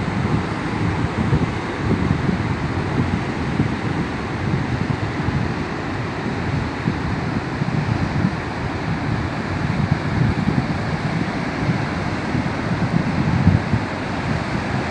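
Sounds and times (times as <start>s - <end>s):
waves breaking on rough sea: 0.0s - 14.9s
wind buffeting microphone: 0.0s - 14.9s.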